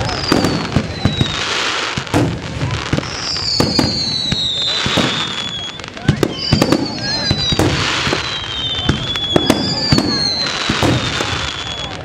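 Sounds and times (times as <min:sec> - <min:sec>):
firework whistles falling in pitch: 0:00.0 - 0:12.0
fireworks bangs and crackles: 0:00.0 - 0:12.0.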